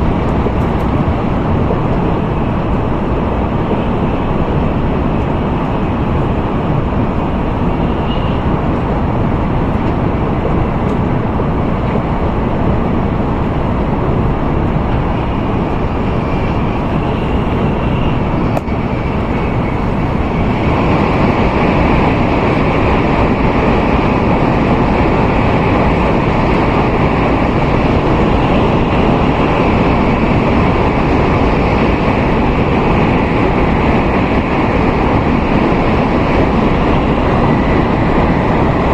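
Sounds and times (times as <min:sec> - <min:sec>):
train cabin rushing noise: 0:00.0 - 0:38.9.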